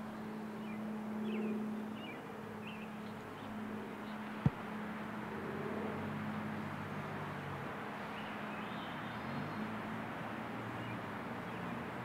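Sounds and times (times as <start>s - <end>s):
distant engine hum: 0.0s - 12.0s.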